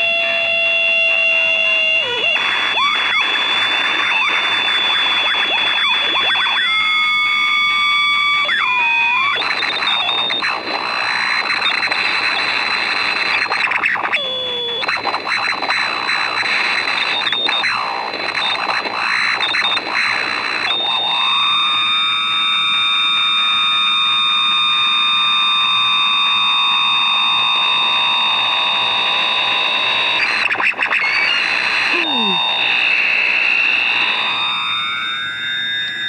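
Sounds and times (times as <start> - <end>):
radio interference hiss and buzz: 0.0 - 36.0.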